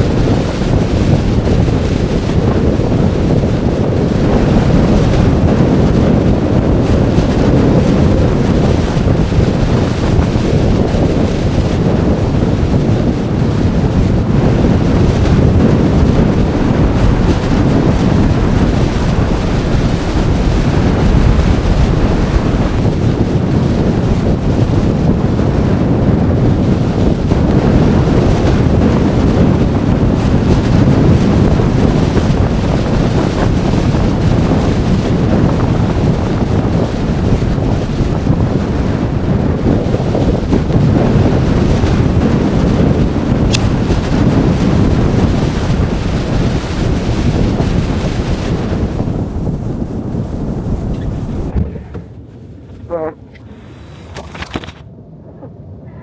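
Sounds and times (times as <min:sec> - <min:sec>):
strong wind buffeting microphone: 0:00.0 - 0:56.0.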